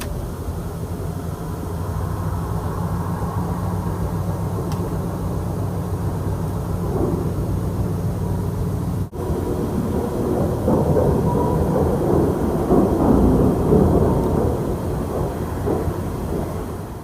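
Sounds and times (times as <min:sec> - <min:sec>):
deep rumble in the sky: 0:00.0 - 0:17.0.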